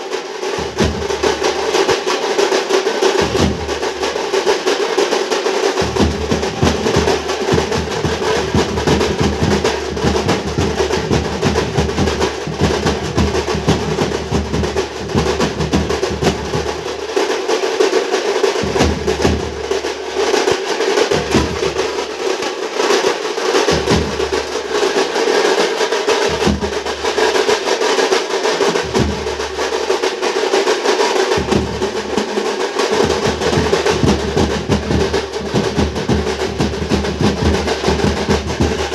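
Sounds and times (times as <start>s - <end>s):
fast loud drumming: 0.0s - 38.9s.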